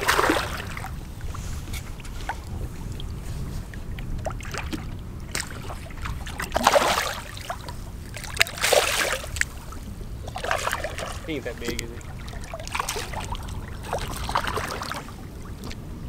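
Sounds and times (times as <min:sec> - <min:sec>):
low wind rumble: 0:00.0 - 0:16.0
water lapping against boat hull: 0:00.0 - 0:16.0
water splashes: 0:00.0 - 0:16.0.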